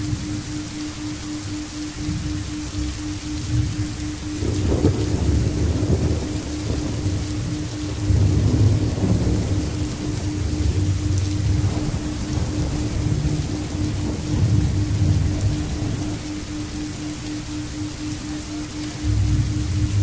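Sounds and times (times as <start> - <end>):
low pulsing tone: 0.0 - 20.0
rain falling: 0.0 - 20.0
thunder rumbling: 0.0 - 20.0.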